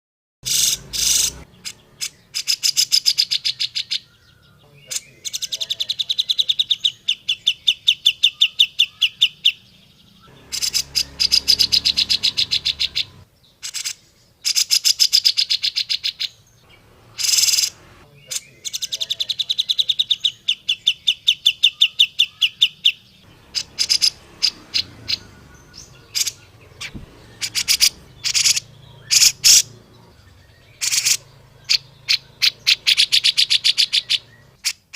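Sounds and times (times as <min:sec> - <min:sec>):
bird singing chattering trills: 0:00.4 - 0:34.9.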